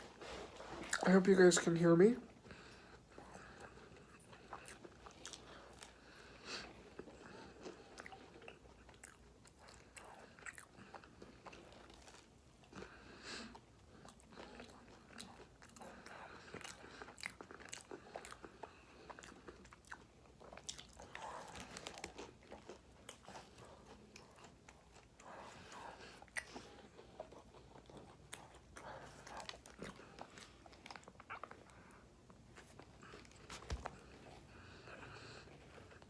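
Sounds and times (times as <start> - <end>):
person chewing food: 0.0 - 1.1, 2.2 - 36.0.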